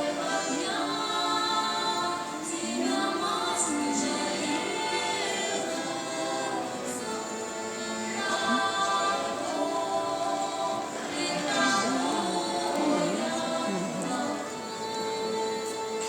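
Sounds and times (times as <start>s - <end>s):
folk choir singing in harmony: 0.0s - 16.0s.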